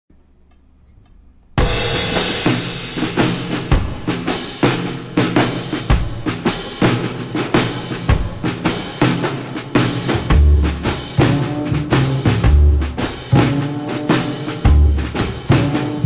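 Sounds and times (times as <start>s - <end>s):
music with drum-kit beat: 1.6s - 16.0s.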